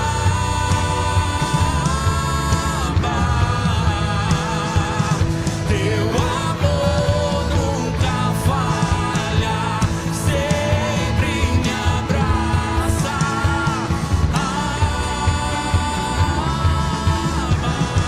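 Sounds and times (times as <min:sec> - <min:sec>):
lead voice singing: 0:00.0 - 0:18.0
worship song with full band: 0:00.0 - 0:18.0.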